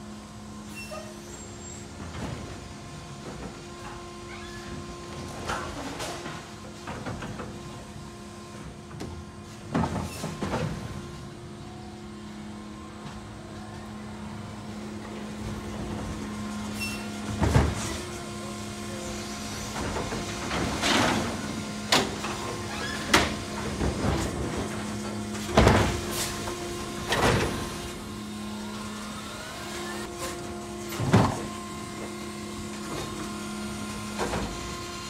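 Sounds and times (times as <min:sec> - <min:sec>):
garbage truck electric hum: 0:00.0 - 0:35.0.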